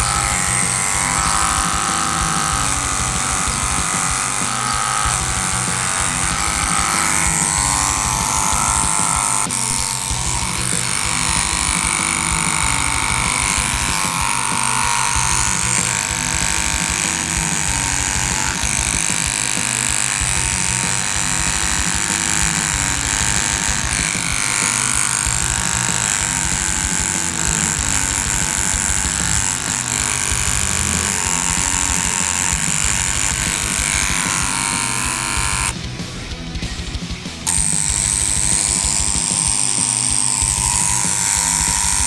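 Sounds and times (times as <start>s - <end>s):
background music: 0.0s - 42.0s
tattoo machine buzzing: 0.0s - 42.0s.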